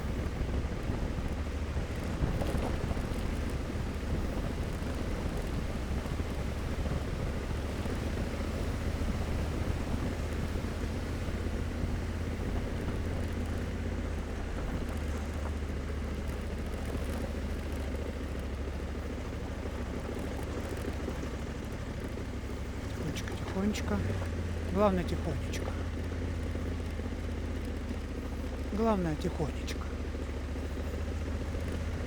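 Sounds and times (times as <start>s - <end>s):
motorcycle engine droning: 0.0s - 32.0s
wind and road noise: 0.0s - 32.0s.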